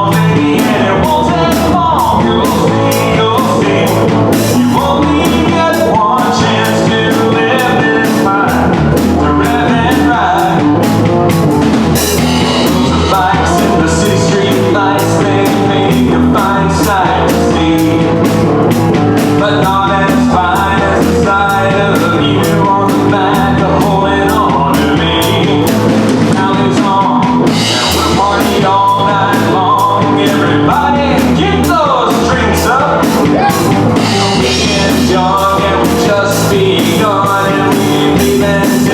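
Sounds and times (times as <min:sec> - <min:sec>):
drum kit beat: 0:00.0 - 0:38.9
guitars and bass: 0:00.0 - 0:38.9
person singing: 0:00.0 - 0:38.9.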